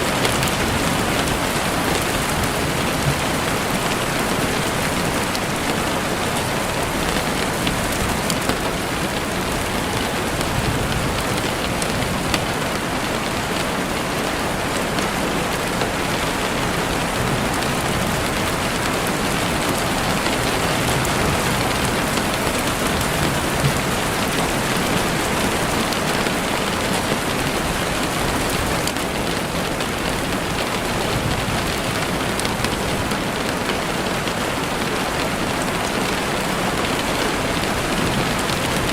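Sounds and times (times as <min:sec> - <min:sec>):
heavy rain on window: 0:00.0 - 0:38.9.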